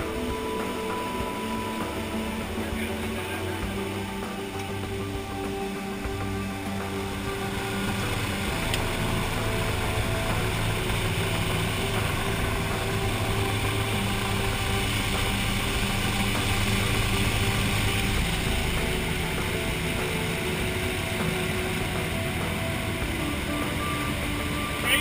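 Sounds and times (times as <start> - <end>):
plane engine and propeller drone: 0.0 - 25.0.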